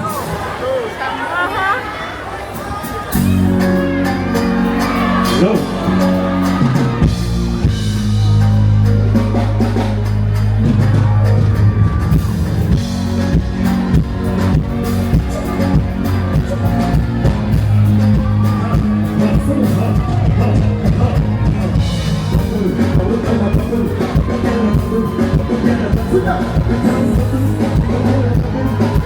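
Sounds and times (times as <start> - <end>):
drum kit beat: 2.6 - 29.0
heavy bass line: 3.2 - 29.0.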